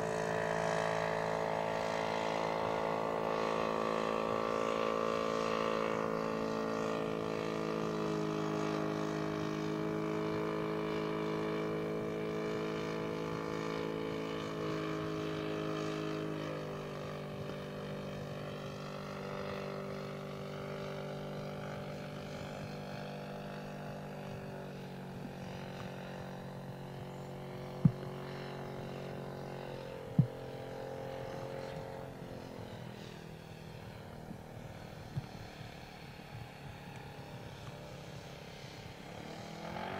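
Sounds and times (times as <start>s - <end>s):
model plane engine droning: 0.0s - 39.9s.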